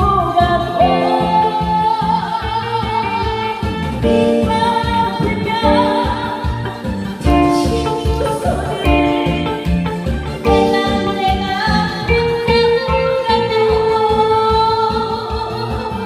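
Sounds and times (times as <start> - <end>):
music with steady beat: 0.0 - 16.0
person singing long notes: 0.0 - 16.0.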